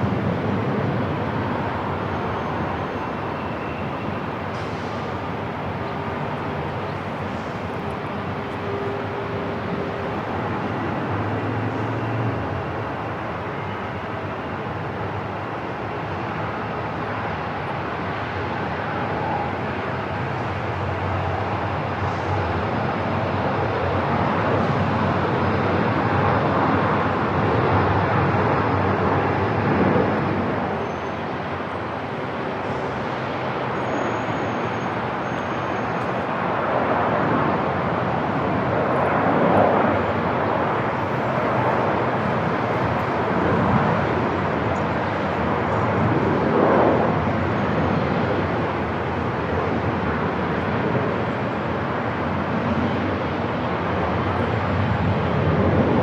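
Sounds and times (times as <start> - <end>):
distant jet aircraft noise: 0.0 - 56.0.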